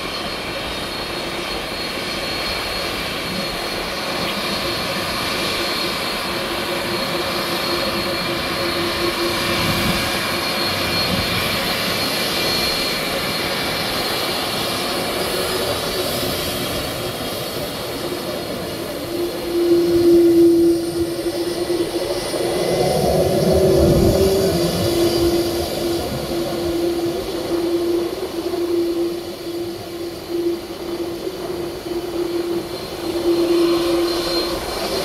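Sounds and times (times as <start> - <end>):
jet engines whining: 0.0 - 35.0.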